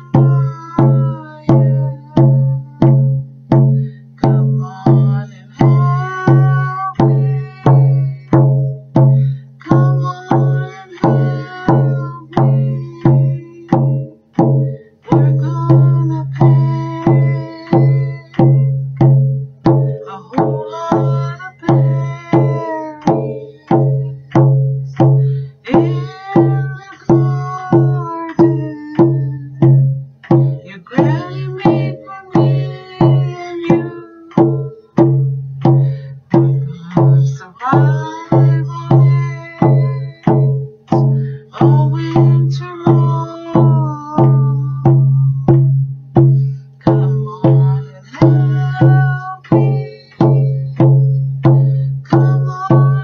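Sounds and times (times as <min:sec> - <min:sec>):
hand drum beating deep: 0:00.0 - 0:53.0
woman singing: 0:00.0 - 0:53.0.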